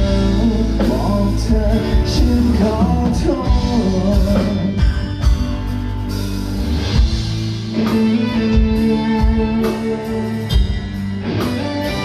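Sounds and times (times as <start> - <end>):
band playing instrumental: 0.0 - 12.0.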